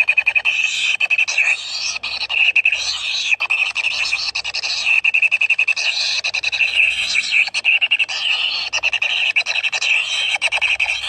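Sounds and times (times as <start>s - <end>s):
nestlings buzzy begging calls: 0.0s - 11.0s.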